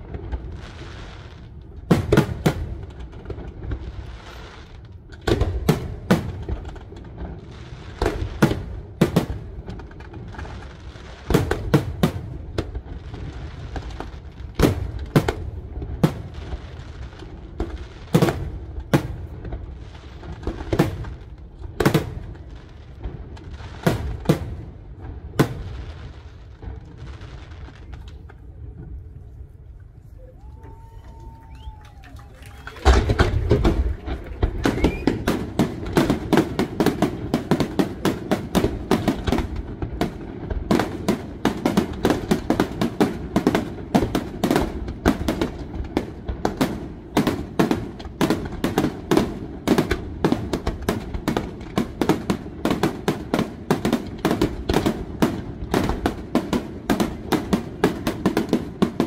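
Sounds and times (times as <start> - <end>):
firework bangs: 0.0 - 28.8, 30.4 - 59.0.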